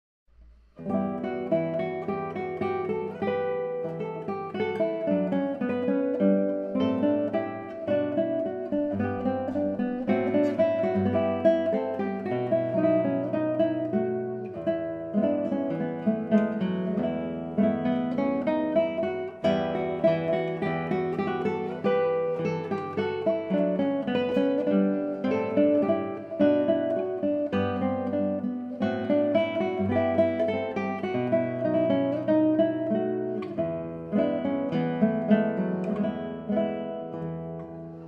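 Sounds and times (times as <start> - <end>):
acoustic guitar plucked notes: 0.3 - 38.0.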